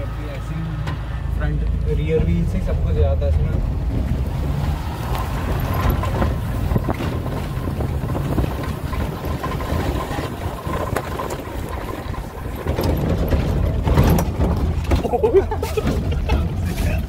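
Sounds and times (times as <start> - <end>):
car engine running: 0.0 - 17.0
body knocks and rattles: 2.0 - 17.0
wind buffeting microphone: 2.0 - 17.0.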